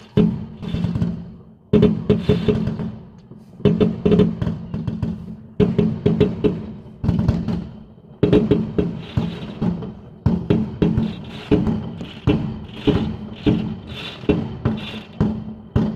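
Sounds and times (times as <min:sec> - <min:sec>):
fireworks bangs: 0:00.0 - 0:15.9.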